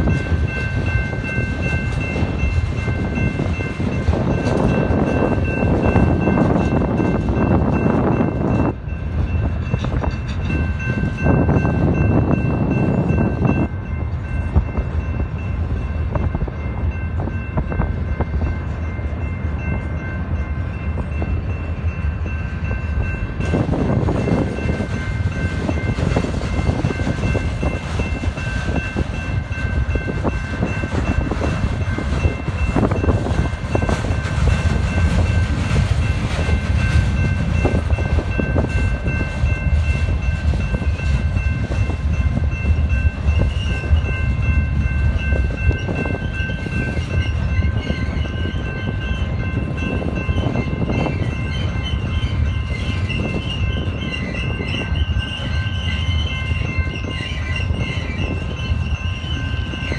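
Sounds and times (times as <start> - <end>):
crossing bell ringing: 0.0 - 59.9
train wheels clattering on rail: 0.0 - 59.9
wind buffeting microphone: 0.0 - 59.9.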